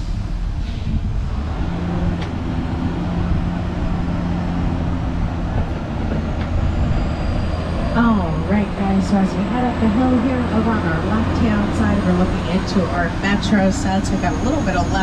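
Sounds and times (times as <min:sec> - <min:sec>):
tram cars rumbling and rattling: 0:00.0 - 0:15.0
tram engine hum: 0:00.0 - 0:15.0.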